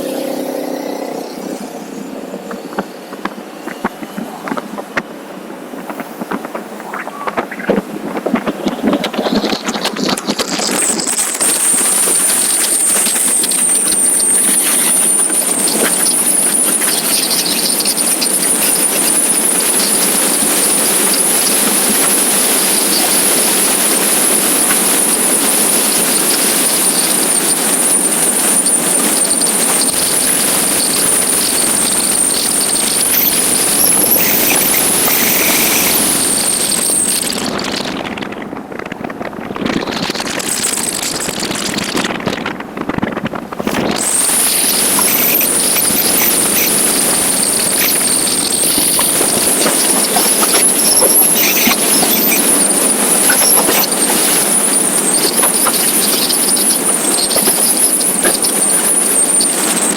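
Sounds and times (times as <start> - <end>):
high-pitched whine: 0.0 - 59.9
wind and road noise rushing: 0.0 - 59.9.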